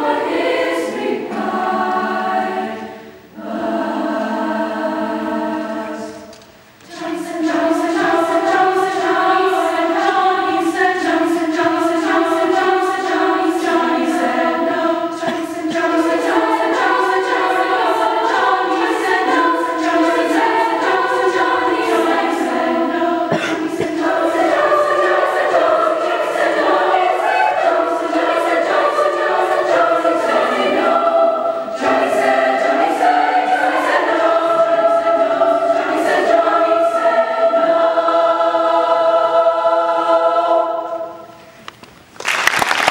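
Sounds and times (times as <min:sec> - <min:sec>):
girls' choir singing: 0:00.0 - 0:41.4.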